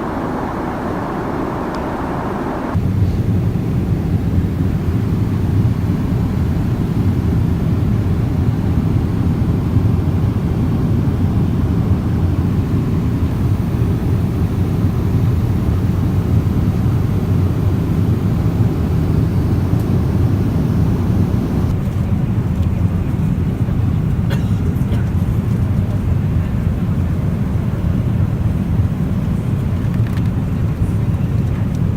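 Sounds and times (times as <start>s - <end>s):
airliner cabin rumble: 0.0s - 31.9s.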